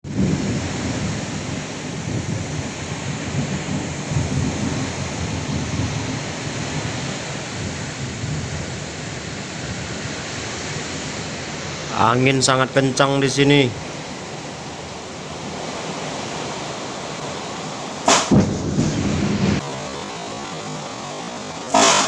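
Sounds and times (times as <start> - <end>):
wind gusts on microphone: 0.0 - 20.1
rain hissing: 0.1 - 22.0.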